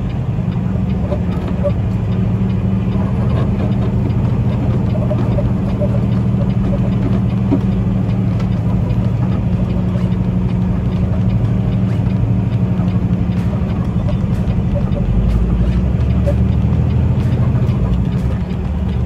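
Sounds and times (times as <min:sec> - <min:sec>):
diesel truck engine drone: 0:00.0 - 0:19.0.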